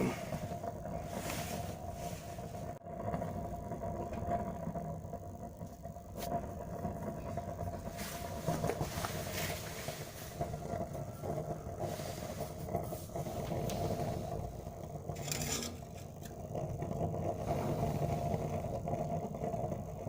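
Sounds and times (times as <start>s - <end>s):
furnace burning with low rumble: 0.0s - 20.0s.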